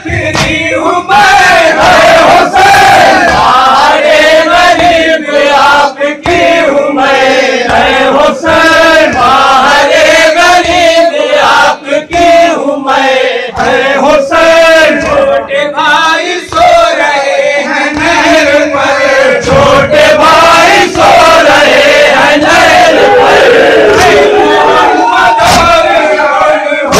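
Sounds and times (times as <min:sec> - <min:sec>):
men chanting through loudspeaker: 0:00.0 - 0:26.9.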